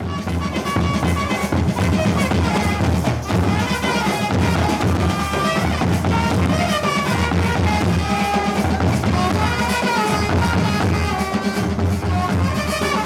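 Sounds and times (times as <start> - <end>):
bass drums beaten in rhythm: 0.0 - 13.0.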